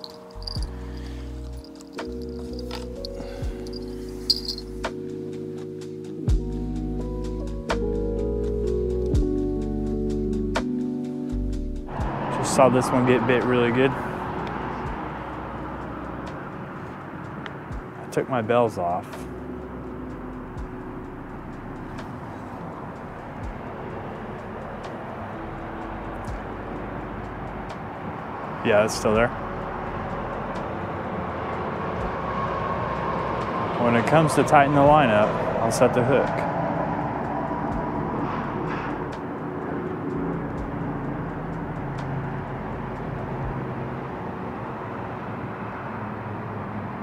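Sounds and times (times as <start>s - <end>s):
traffic rumble on a bridge: 0.0s - 47.0s.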